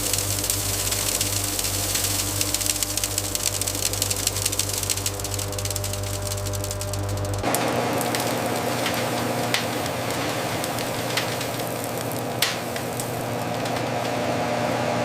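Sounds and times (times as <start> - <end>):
sharp clicks: 0.0 - 14.2
hissing noise: 0.0 - 14.8
machinery hum: 0.0 - 15.0.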